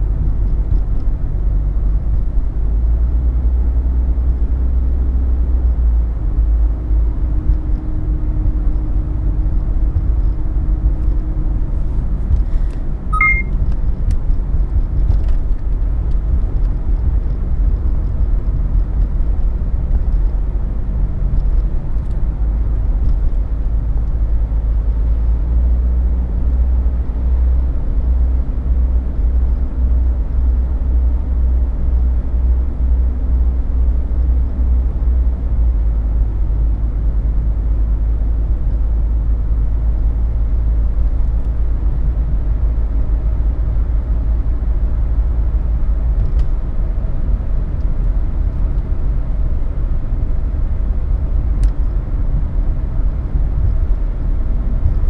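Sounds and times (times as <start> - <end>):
low road rumble: 0.0 - 55.0.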